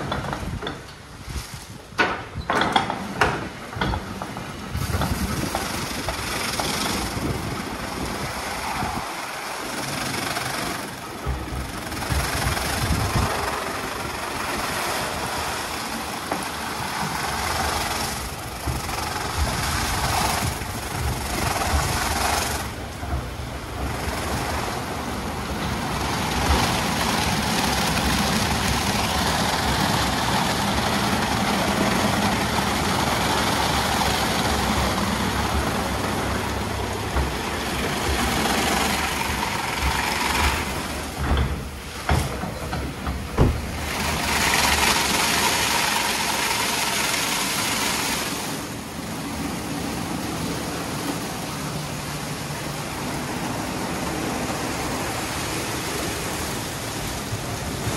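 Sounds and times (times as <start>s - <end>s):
car wash machine and water noise: 0.0s - 57.9s.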